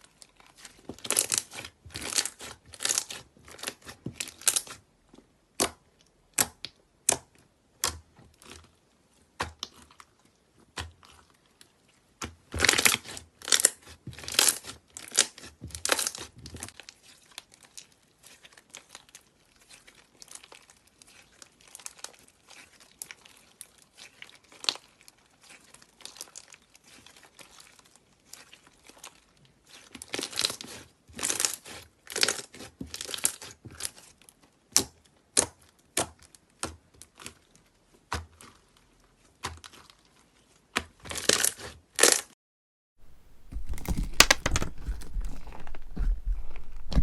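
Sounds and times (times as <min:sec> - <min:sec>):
slime squeezed and crinkling: 0:00.1 - 0:04.8, 0:08.4 - 0:35.1, 0:36.5 - 0:42.2, 0:43.0 - 0:47.0.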